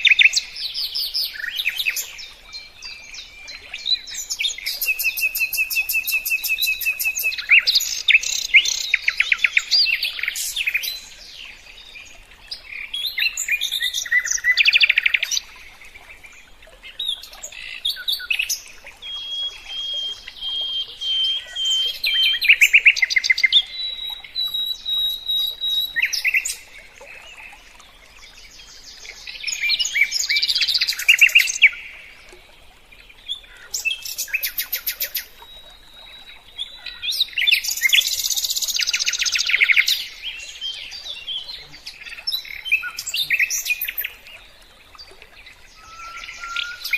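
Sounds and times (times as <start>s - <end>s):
songbird chirping and trilling: 0.0s - 46.9s.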